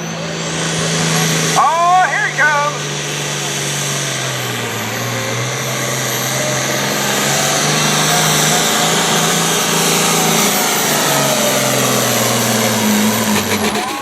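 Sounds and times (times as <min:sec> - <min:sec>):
tractor diesel engine at full power: 0:00.0 - 0:14.0.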